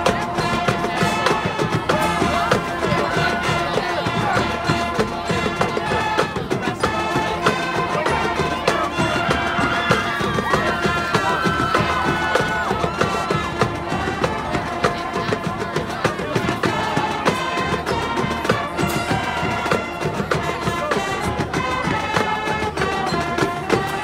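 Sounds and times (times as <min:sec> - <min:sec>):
marching band playing: 0:00.0 - 0:24.0
steady drum beat: 0:00.0 - 0:24.0.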